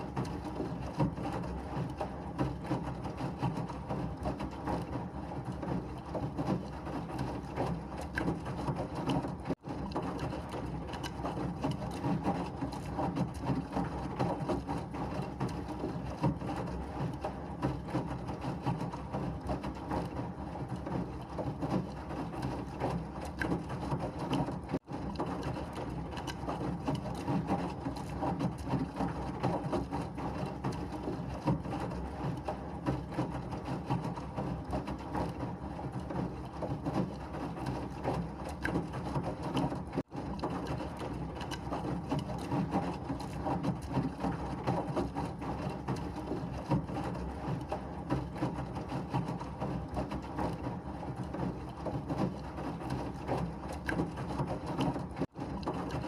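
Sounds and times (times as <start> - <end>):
washing machine churning: 0.0 - 56.0.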